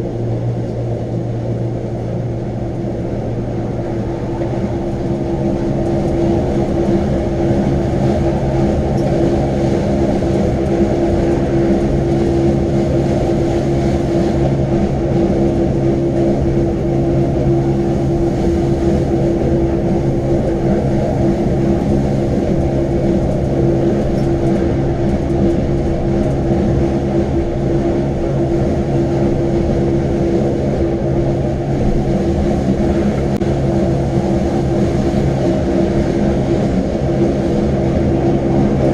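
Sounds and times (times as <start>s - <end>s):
train mechanical drone: 0.0s - 38.9s.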